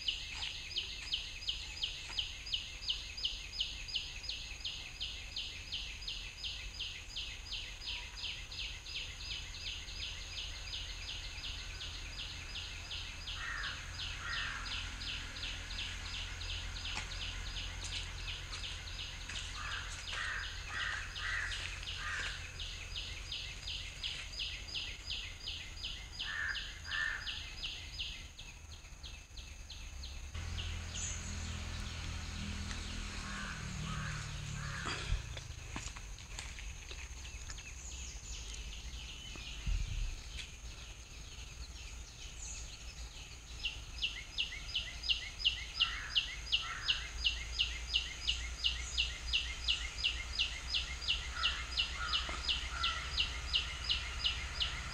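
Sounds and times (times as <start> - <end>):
insect chirping: 0.0 - 54.9.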